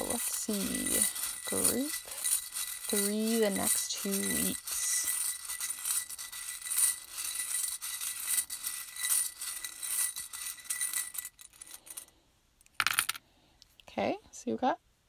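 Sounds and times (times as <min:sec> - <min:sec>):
small charms rattling and clinking: 0:00.0 - 0:12.1.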